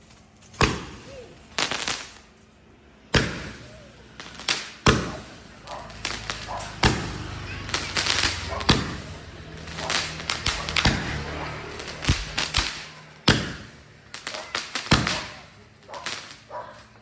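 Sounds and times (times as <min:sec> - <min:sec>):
fireworks crackling burst: 0:00.1 - 0:17.0
fireworks bangs with echo: 0:00.4 - 0:02.3, 0:02.9 - 0:17.0.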